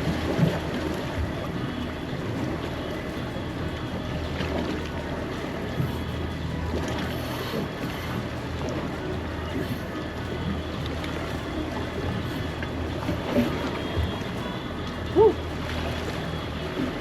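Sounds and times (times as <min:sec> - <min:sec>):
outboard boat engines running: 0:00.0 - 0:17.0
water noise: 0:00.0 - 0:17.0
wind: 0:00.0 - 0:17.0.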